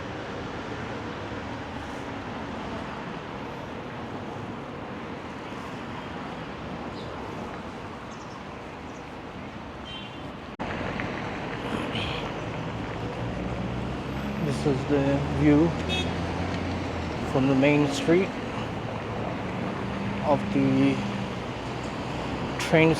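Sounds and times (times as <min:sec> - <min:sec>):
road traffic rushing: 0:00.0 - 0:22.9.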